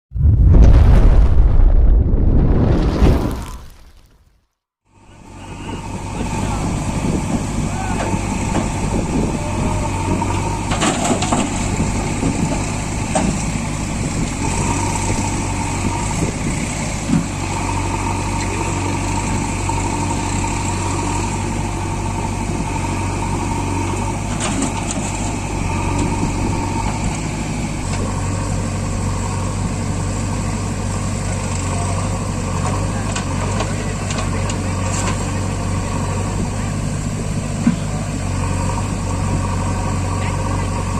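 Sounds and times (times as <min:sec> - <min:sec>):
tractor diesel engine running: 0:04.9 - 0:40.9.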